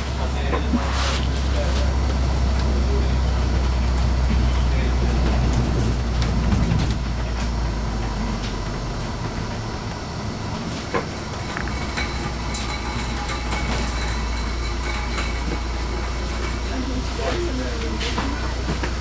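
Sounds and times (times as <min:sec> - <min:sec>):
bus engine drone: 0:00.0 - 0:19.0
interior rattles: 0:00.0 - 0:19.0.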